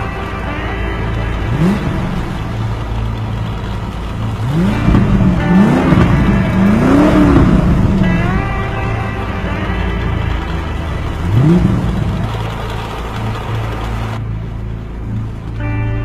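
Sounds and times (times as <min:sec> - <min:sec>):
car engines revving: 0:00.0 - 0:16.0
engine idling: 0:00.0 - 0:16.0.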